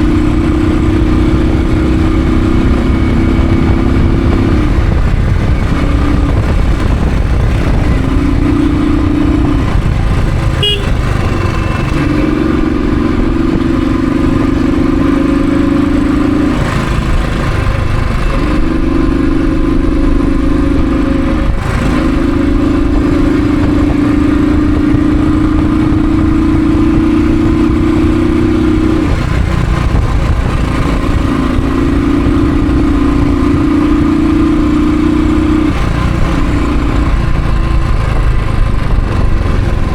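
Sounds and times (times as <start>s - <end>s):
low wind: 0.0s - 39.9s
motorcycle engine running: 0.0s - 39.9s
road rumble: 0.0s - 39.9s.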